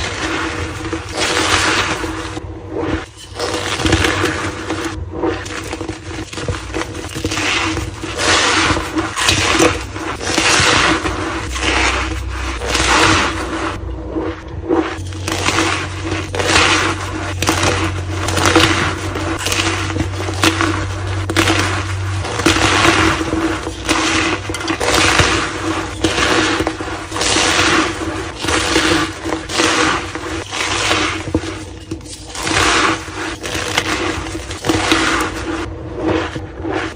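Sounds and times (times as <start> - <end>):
chalk crumbling and crunching: 0.0 - 36.9.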